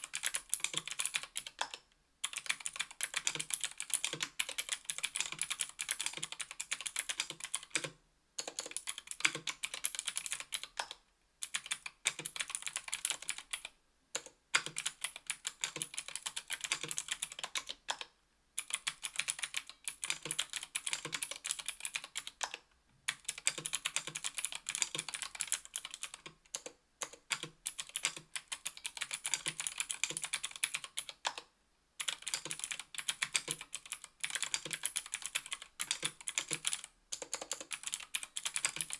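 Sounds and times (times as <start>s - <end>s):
clicky mechanical keyboard typing: 0.0s - 38.9s.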